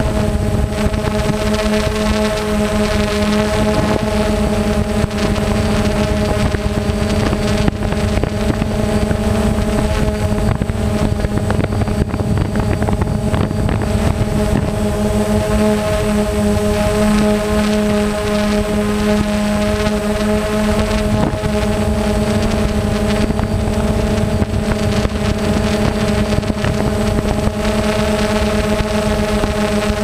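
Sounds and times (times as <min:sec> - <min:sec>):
drone motors humming: 0:00.0 - 0:30.0
wind buffeting microphone: 0:00.0 - 0:30.0.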